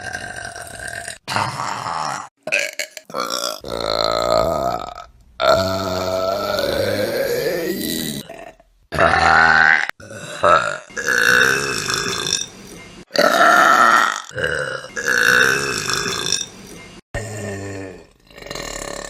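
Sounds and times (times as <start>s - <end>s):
long loud burps: 0.0s - 12.5s, 13.1s - 16.5s, 17.2s - 19.0s.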